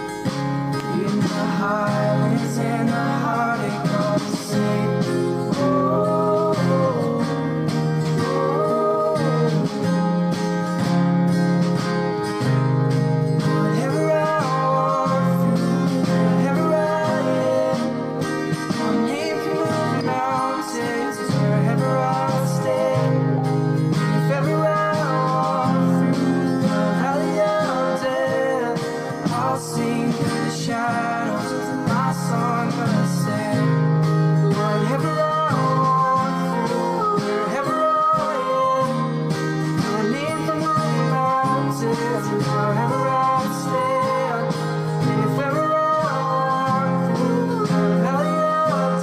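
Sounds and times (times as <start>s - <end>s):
acoustic guitar strumming: 0.0s - 49.0s
man and woman singing: 0.8s - 10.8s, 13.4s - 49.0s.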